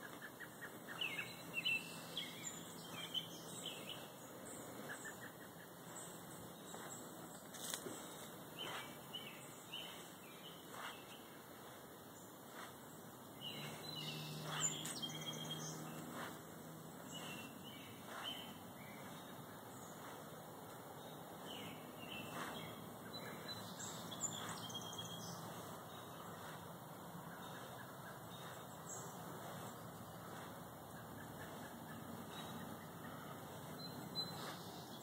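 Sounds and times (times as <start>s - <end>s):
faint low hum: 0.0s - 35.0s
songbirds chirping: 0.0s - 35.0s.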